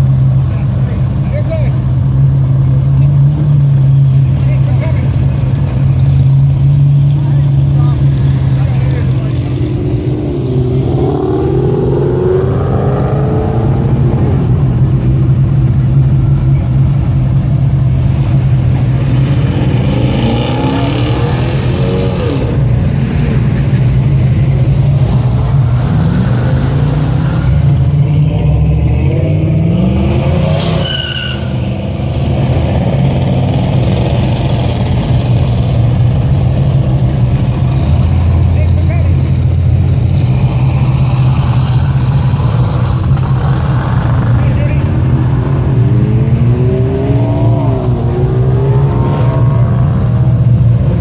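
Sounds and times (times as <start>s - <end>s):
car engines revving: 0.0s - 51.0s.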